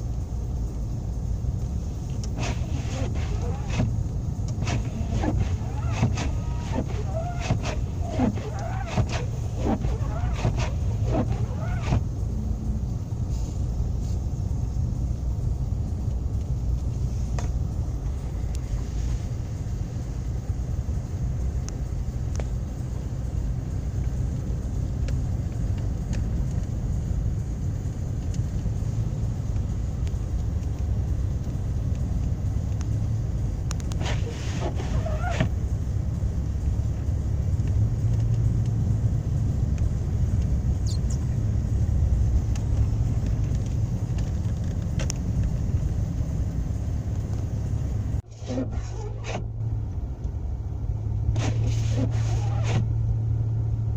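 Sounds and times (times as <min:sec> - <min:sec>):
car engine rumble: 0:00.0 - 0:53.9
tyres on snowy road: 0:00.0 - 0:53.9.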